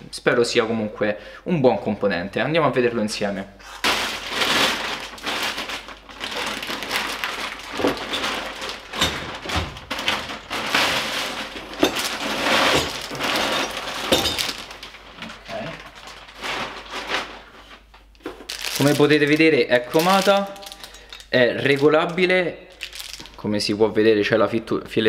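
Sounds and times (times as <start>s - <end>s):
plastic wrapping crinkling: 3.6s - 23.7s.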